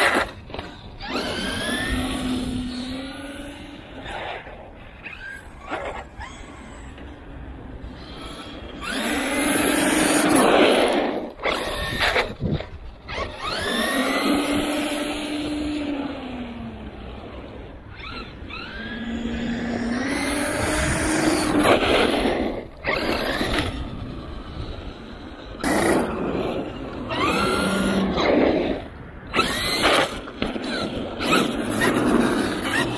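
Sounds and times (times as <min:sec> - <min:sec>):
electric motor whining: 0:00.0 - 0:32.9.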